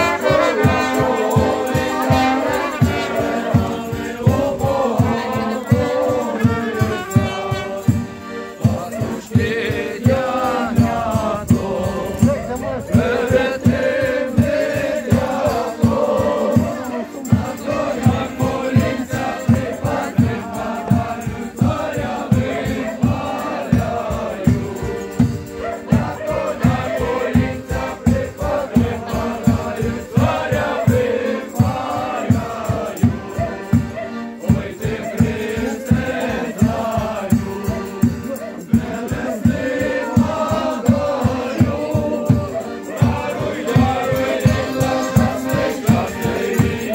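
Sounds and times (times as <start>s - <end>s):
group singing a folk song: 0.0s - 46.9s
steady drum beat: 0.0s - 46.9s.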